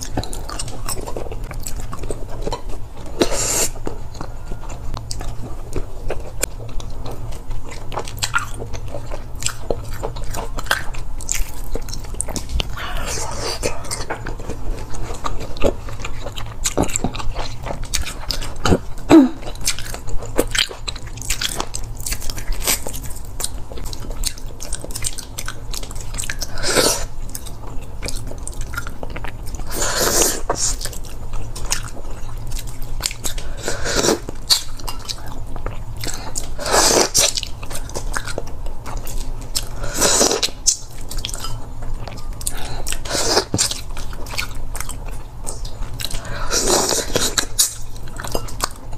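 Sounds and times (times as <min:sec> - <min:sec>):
wet crunchy chewing: 0:00.0 - 0:48.9.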